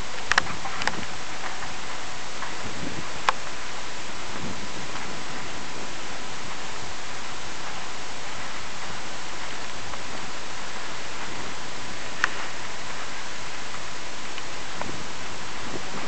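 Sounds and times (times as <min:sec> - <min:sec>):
steady static hiss: 0:00.0 - 0:16.0.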